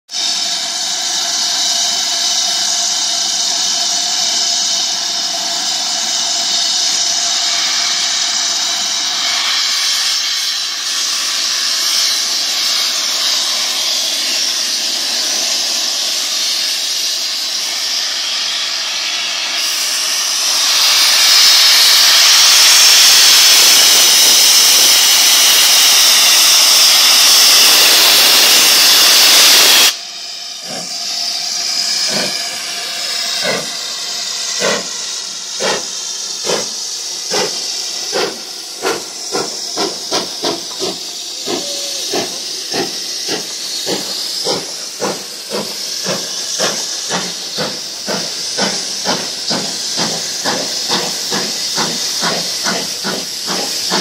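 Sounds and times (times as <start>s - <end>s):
steam locomotive venting steam: 0.1s - 54.0s
steady whistling tones: 0.2s - 54.0s.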